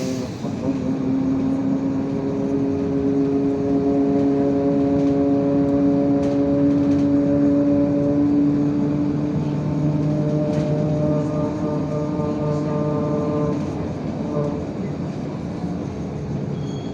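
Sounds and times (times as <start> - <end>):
bus engine droning: 0.0 - 16.9
road noise: 0.0 - 16.9.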